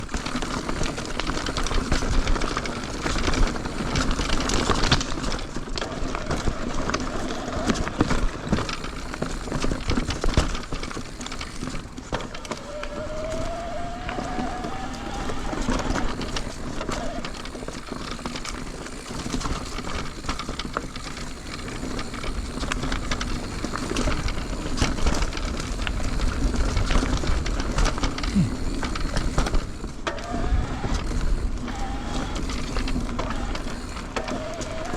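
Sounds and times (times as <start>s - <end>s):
bike rattling and knocking: 0.0s - 34.9s
bike tyres rolling on dirt: 0.0s - 34.9s.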